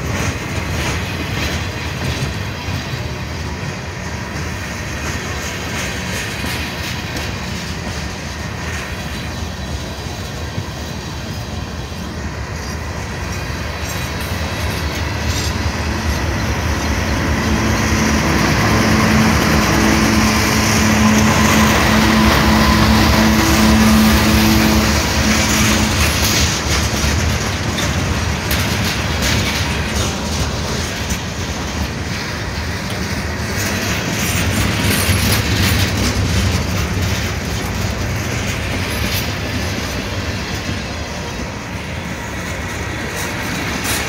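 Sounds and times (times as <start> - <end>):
diesel locomotive engine drone: 0.0 - 44.0
train wheels clattering on rails: 0.0 - 44.0.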